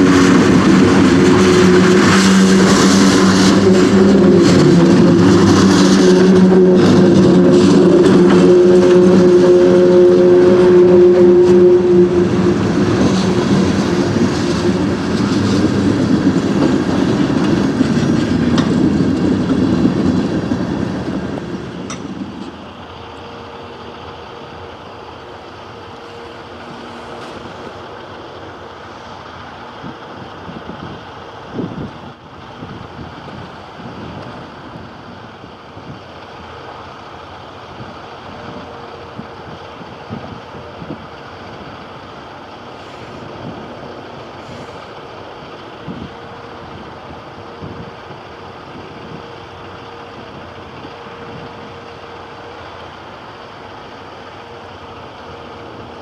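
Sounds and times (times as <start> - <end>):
low rumbling hum: 0.0 - 56.0
train wheels clicking over rail joints: 0.0 - 56.0
wind: 0.0 - 56.0.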